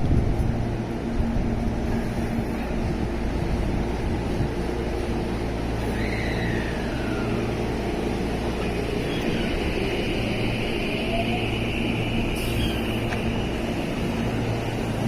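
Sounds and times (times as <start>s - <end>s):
electric train rumble: 0.0s - 15.0s
train motor whine: 0.1s - 15.0s.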